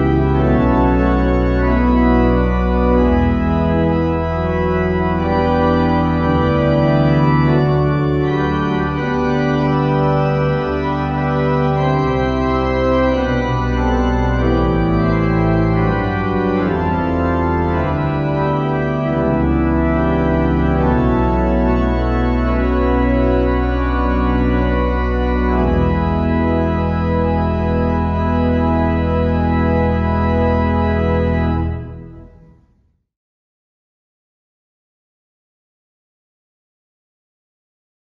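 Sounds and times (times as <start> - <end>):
church organ chords: 0.0 - 32.7.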